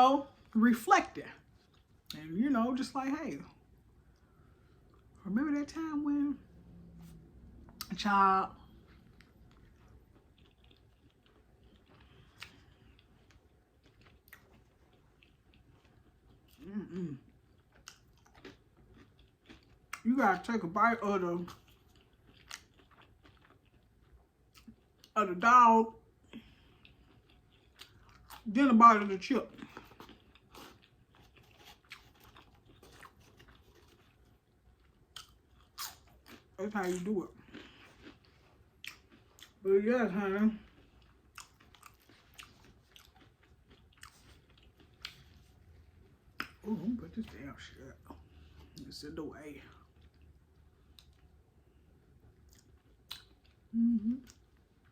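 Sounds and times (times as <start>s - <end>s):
chewing crunchy food: 1.4s - 2.2s, 7.0s - 25.2s, 26.3s - 49.0s, 49.6s - 54.9s.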